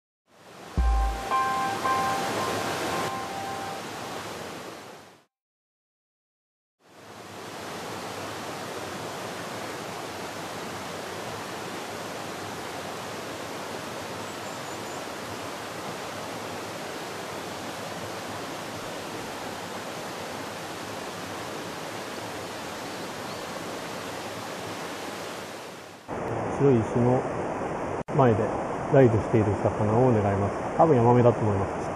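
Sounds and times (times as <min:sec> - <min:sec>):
stream rushing over rocks: 0:00.3 - 0:05.2, 0:06.8 - 0:28.9.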